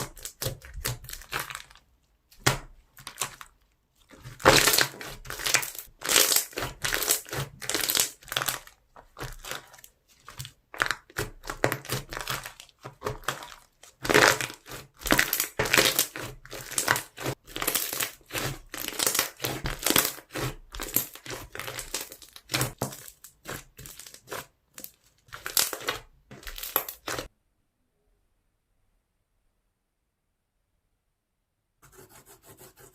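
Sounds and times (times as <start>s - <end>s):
foam slime squished by hand: 0.0s - 27.3s.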